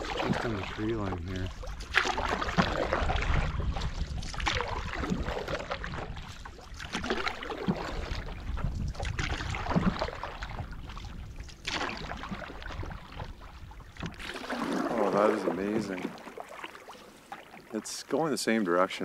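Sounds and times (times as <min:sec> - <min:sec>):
wind rumble on microphone: 0:00.0 - 0:15.8
paddle splashing in water: 0:00.0 - 0:19.0.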